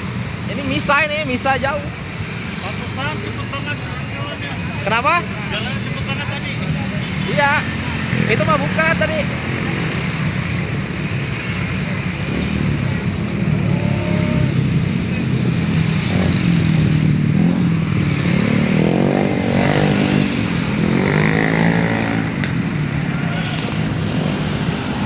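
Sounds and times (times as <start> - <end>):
engines revving: 0.0 - 25.0
motorcycles riding past: 1.8 - 25.0.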